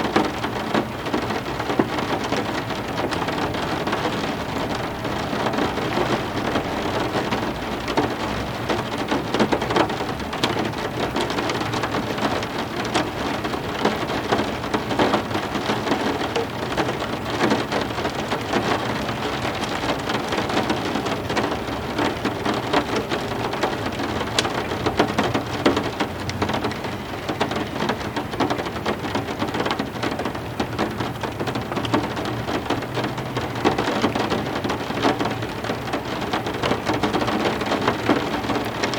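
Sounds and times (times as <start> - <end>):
heavy rain falling: 0.0 - 38.9
raindrops ticking on hard surfaces: 0.0 - 38.9.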